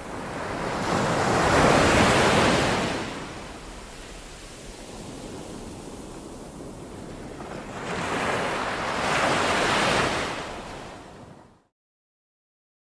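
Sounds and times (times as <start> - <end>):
small waves washing over sand: 0.0 - 11.3.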